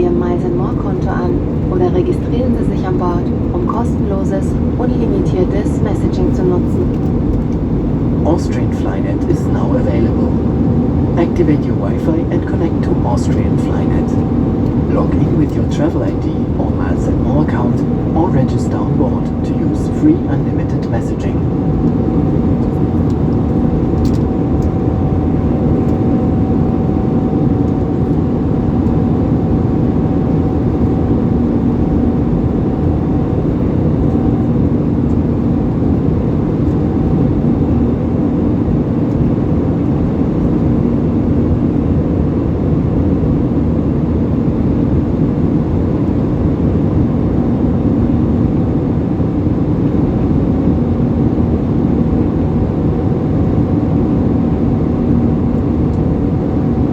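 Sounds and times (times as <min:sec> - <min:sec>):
aircraft cabin engine noise: 0:00.0 - 0:56.9.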